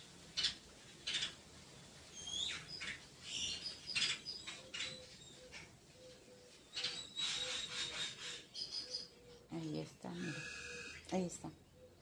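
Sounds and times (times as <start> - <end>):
small birds chirping: 0.3 - 1.4, 2.1 - 12.0.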